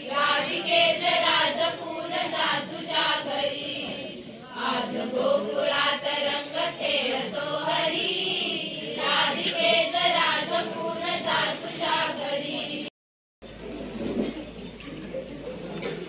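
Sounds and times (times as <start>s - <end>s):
children singing a devotional song: 0.0s - 12.9s.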